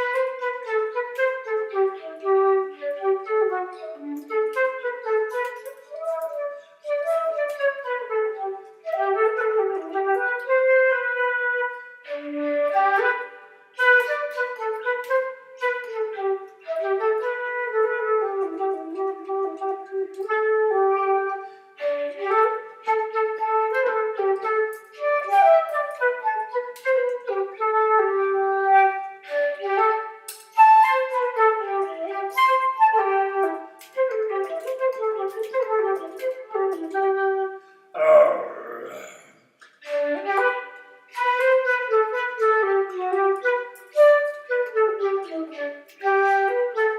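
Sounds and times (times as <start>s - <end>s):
flute-like solo melody: 0.0s - 37.8s, 39.7s - 46.9s.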